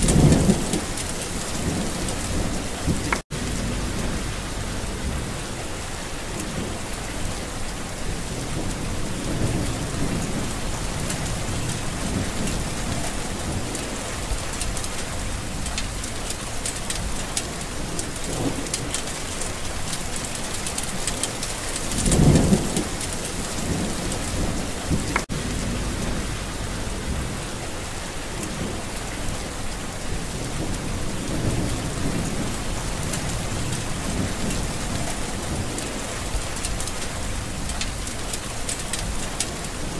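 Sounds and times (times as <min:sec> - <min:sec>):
thunder rolling: 0:00.0 - 0:06.9, 0:08.0 - 0:16.0, 0:20.9 - 0:38.0
steady rain: 0:00.0 - 0:39.9.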